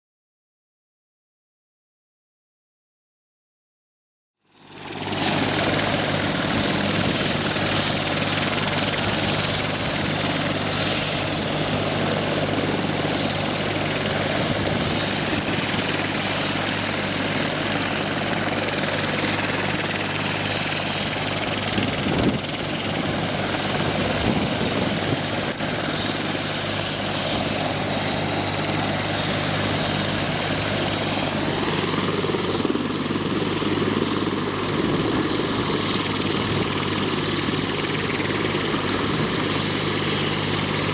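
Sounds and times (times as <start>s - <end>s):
helicopter rotor drone: 4.4s - 40.9s
helicopter turbine whine: 4.4s - 40.9s.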